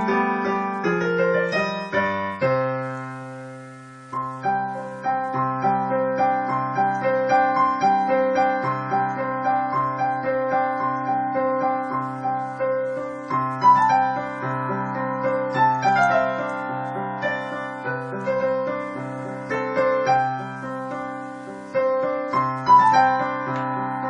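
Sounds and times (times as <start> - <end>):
slow dreamy piano piece: 0.0 - 24.0.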